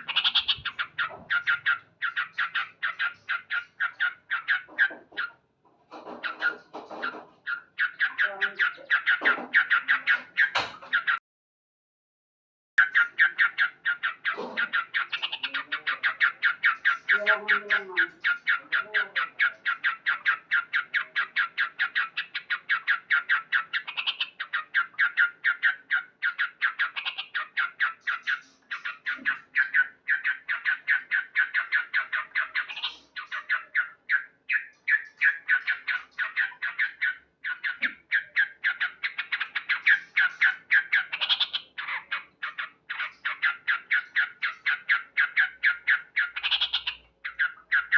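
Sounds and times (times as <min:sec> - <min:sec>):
bird chattering call: 0:00.0 - 0:05.4, 0:12.8 - 0:47.9.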